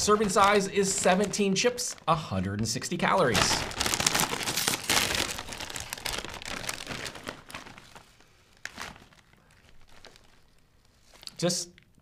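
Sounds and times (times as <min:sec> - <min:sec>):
chip bag crinkling: 0:00.0 - 0:02.2, 0:03.0 - 0:11.5.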